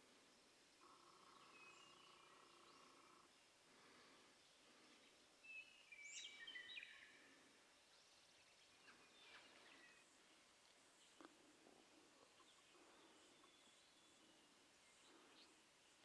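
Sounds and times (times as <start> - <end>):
soft background hiss: 0.0 - 16.0
songbird calls: 0.0 - 16.0.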